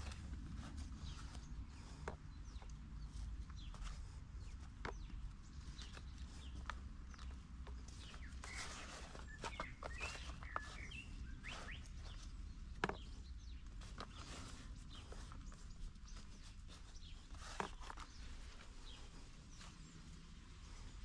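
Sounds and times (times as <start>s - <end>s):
bird chirps: 1.0s - 20.0s.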